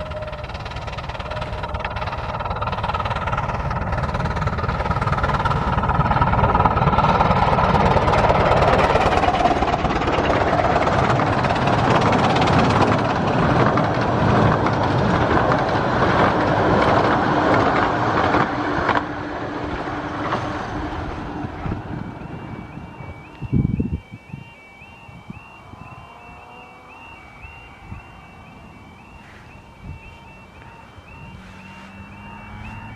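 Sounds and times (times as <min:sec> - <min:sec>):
steam train running past: 0:00.0 - 0:23.3, 0:24.6 - 0:32.9.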